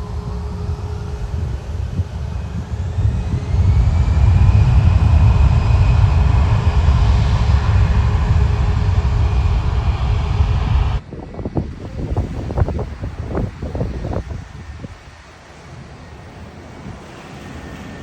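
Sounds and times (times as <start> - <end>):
jet airliner engine rumble: 0.0 - 18.0
jet engine whine: 0.0 - 18.0.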